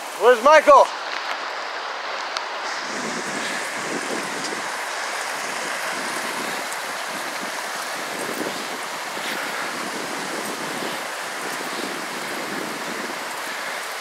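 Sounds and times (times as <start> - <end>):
creek rushing over rocks: 0.0 - 14.0.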